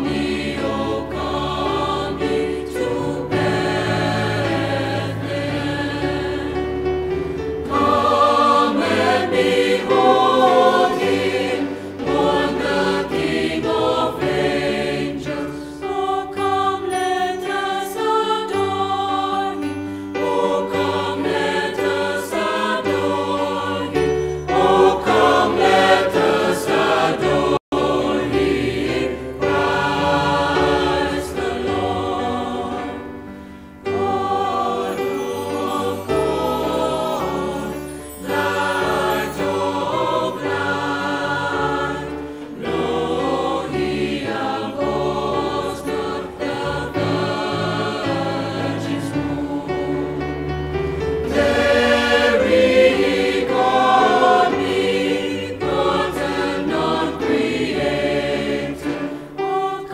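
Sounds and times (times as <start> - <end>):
mixed choir singing a hymn: 0.0 - 59.9.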